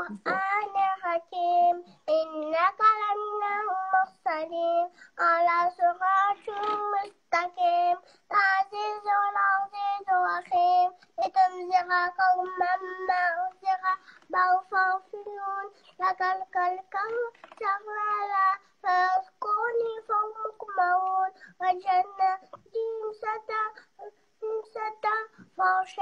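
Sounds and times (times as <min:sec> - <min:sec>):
girl chanting melodically: 0:00.0 - 0:26.0.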